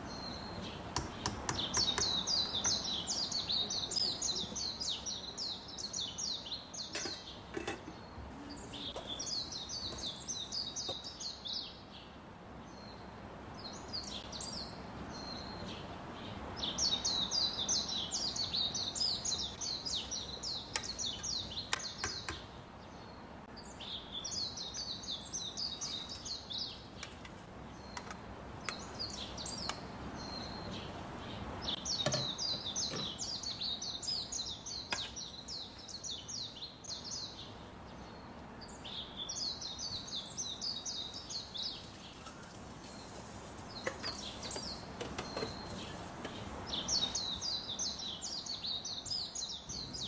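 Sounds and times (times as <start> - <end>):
low background hiss: 0.0 - 50.0
songbird chirping: 0.0 - 50.0.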